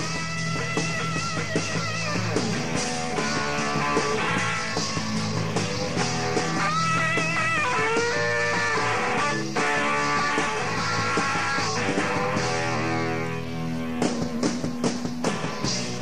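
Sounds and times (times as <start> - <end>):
bass line: 0.0 - 16.0
drum beat: 0.0 - 16.0.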